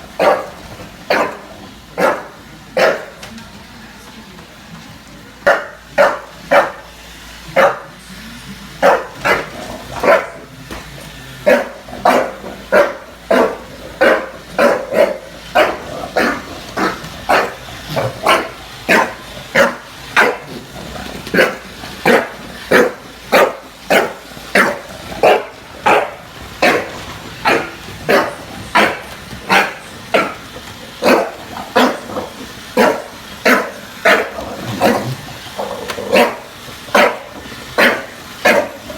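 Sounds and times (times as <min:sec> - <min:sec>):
bulldog barking: 0:00.1 - 0:03.2, 0:05.4 - 0:08.0, 0:08.8 - 0:10.5, 0:11.4 - 0:38.9.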